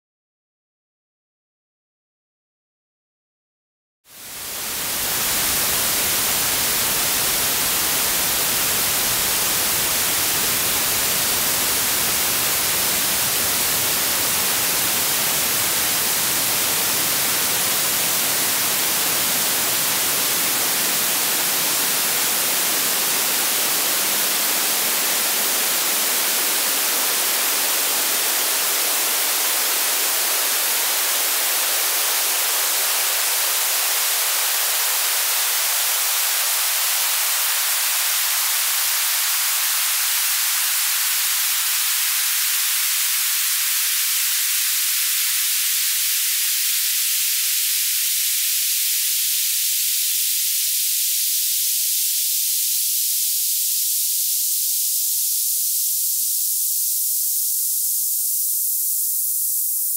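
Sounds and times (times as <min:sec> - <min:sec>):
filtered white noise hiss: 0:04.1 - 0:59.9.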